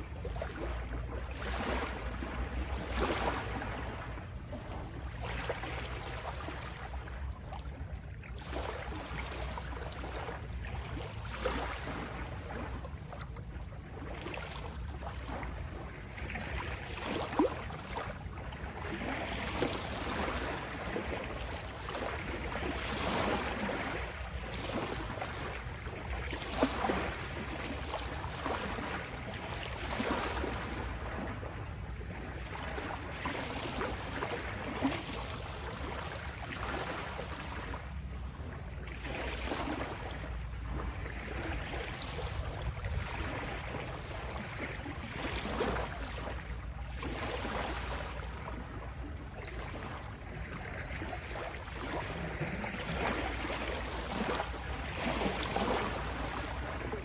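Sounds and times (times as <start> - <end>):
small waves lapping on shore: 0.0 - 57.0
water splashes: 0.0 - 57.0.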